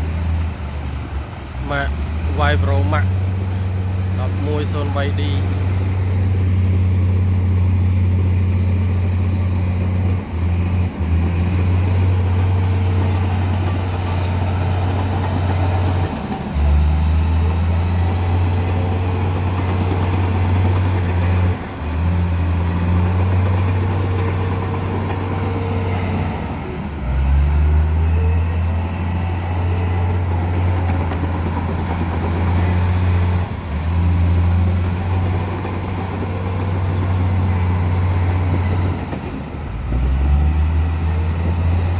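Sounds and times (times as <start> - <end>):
heavy diesel engines droning: 0.0 - 41.9.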